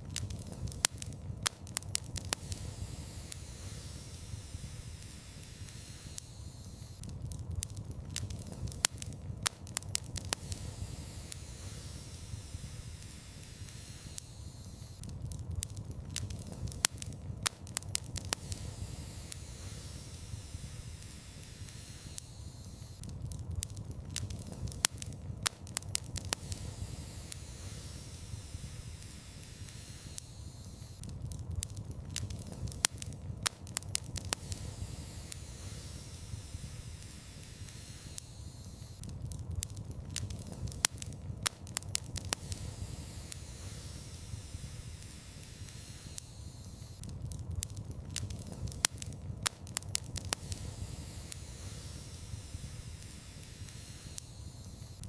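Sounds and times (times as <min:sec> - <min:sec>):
fire crackling and popping: 0:00.0 - 0:55.0
soft hiss: 0:00.0 - 0:55.0.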